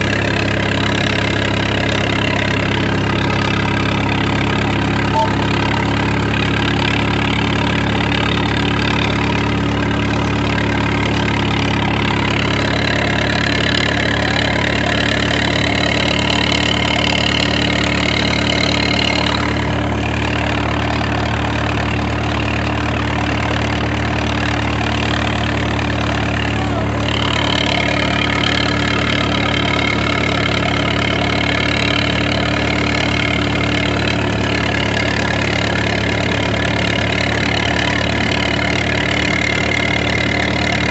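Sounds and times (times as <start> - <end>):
engine running steadily: 0.0 - 40.9
higher-pitched engine layer: 0.0 - 40.9.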